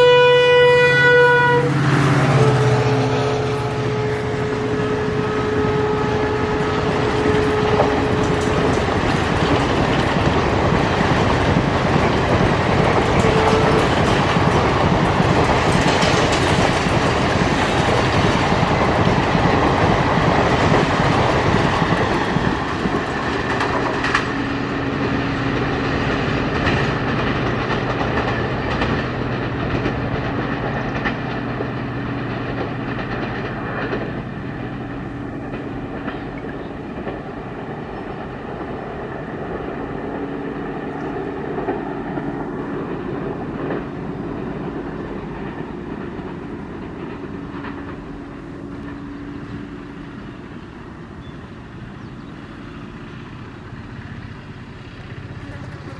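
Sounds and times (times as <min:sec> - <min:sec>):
train coaches rolling on rails: 0:00.0 - 0:55.9.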